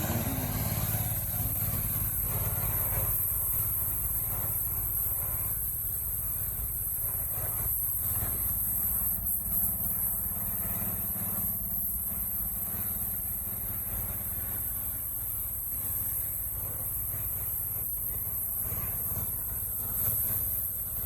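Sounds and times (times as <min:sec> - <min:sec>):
pressure washer running: 0:00.0 - 0:21.0.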